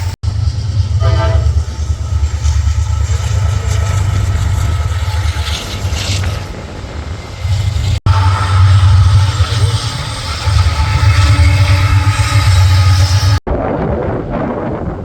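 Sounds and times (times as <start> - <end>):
diesel locomotive engine rumble: 0.0 - 13.5.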